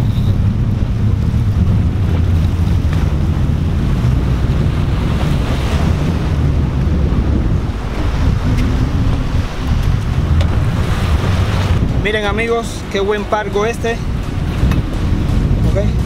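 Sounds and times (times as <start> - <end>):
waves washing against rocks: 0.0 - 16.0
wind buffeting microphone: 0.0 - 16.0.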